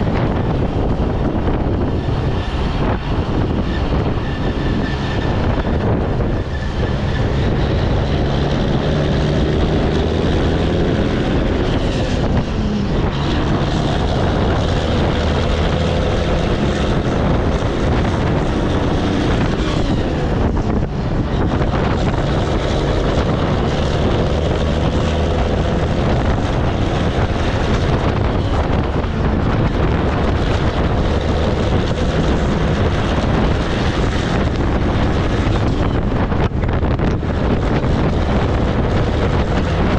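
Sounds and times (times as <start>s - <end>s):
truck diesel engine accelerating: 0.0s - 39.9s
wind rush on microphone: 0.0s - 39.9s.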